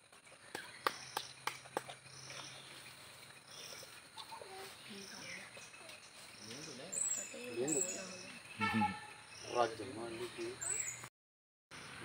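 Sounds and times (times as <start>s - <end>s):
insect chirping: 0.1s - 11.1s.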